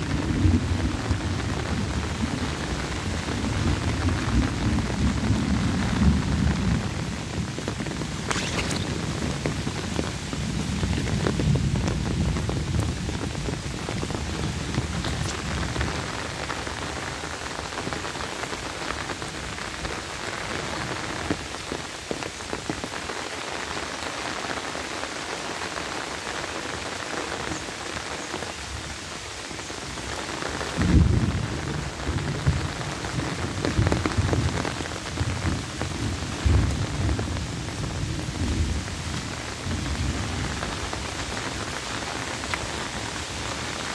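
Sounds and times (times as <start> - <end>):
rain falling on foliage: 0.0 - 43.9.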